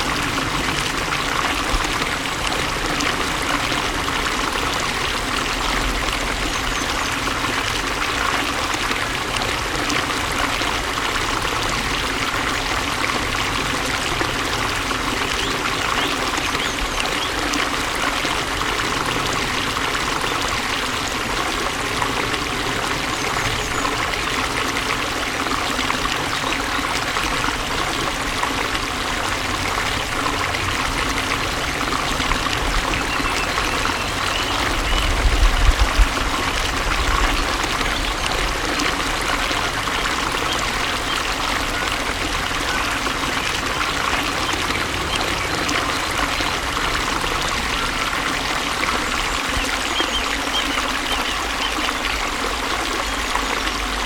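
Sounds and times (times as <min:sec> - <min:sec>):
water flowing: 0:00.0 - 0:54.0.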